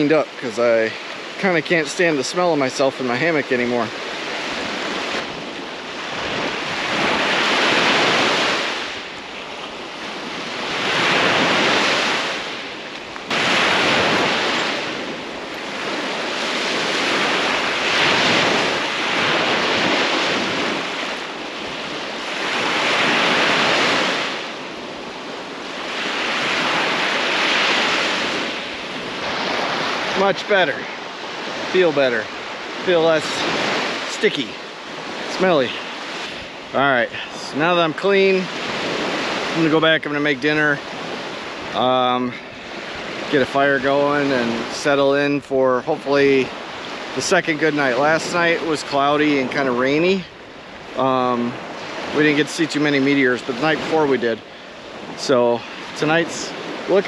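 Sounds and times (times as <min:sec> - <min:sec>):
waves washing onto beach: 0:00.0 - 0:57.0.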